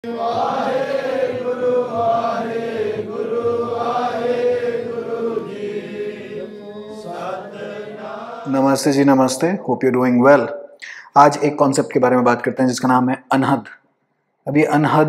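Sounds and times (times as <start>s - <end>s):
chanting voices: 0.0s - 12.3s.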